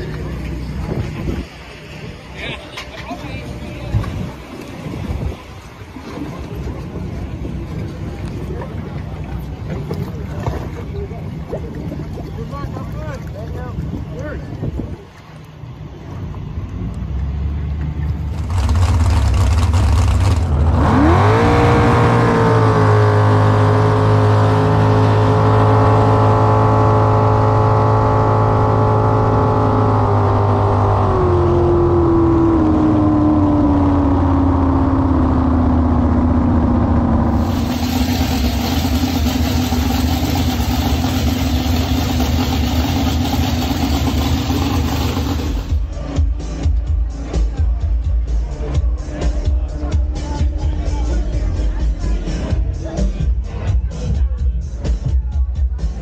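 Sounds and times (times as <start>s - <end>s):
jet boat engine revving: 0.0s - 46.0s
wind and water rushing: 0.0s - 46.0s.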